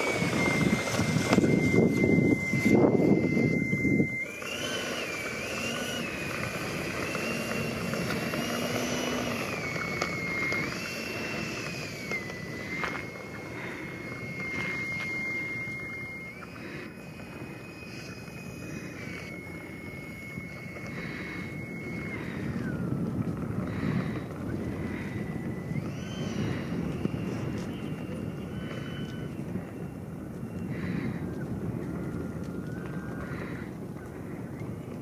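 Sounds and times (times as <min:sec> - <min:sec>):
electric ducted fan whining: 0:00.0 - 0:35.0
wind noise on microphone: 0:00.0 - 0:35.0.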